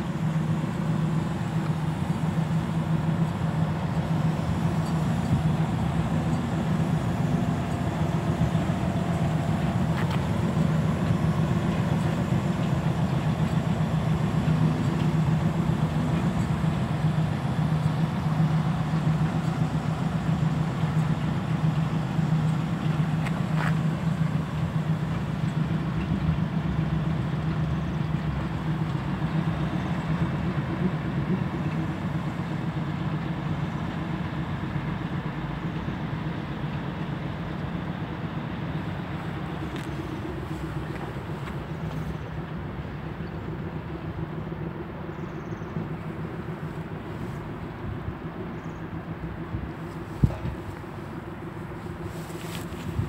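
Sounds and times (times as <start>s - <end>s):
diesel locomotive engine running: 0.0s - 53.0s.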